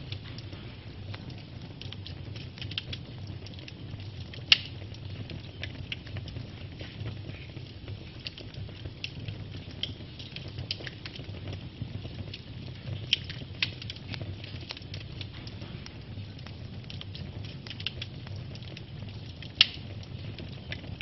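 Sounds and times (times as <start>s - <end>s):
log fire crackling: 0.0s - 21.0s.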